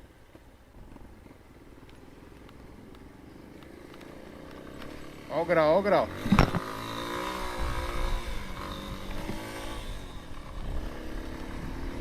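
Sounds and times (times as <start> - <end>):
motorcycle engine revving: 1.4 - 12.0.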